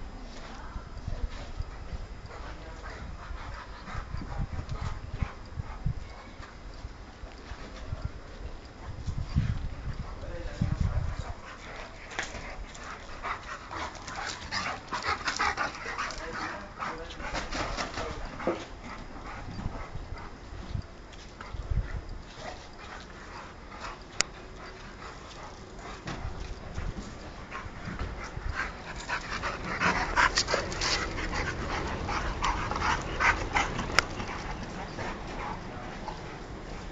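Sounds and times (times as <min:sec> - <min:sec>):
dogs panting and whining: 0:01.3 - 0:06.8, 0:08.6 - 0:36.9.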